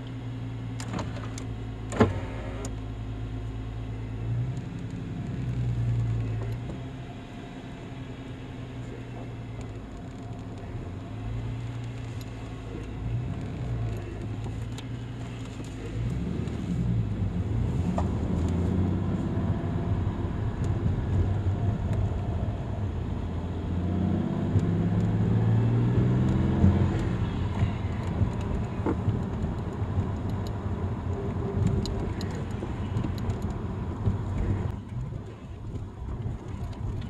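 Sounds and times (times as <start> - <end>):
car engine accelerating: 0.0 - 37.0
road rumble: 0.0 - 37.0.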